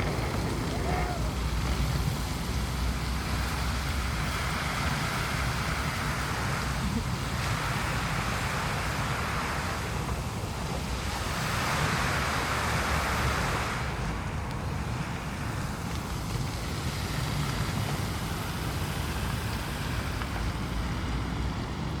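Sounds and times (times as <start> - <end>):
fountain water hissing and splashing: 0.0 - 22.0
jet airliner rumble: 0.0 - 22.0.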